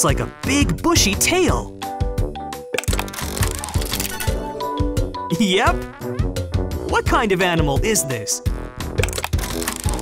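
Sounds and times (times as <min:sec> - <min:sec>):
bouncy children's music: 0:00.0 - 0:10.0.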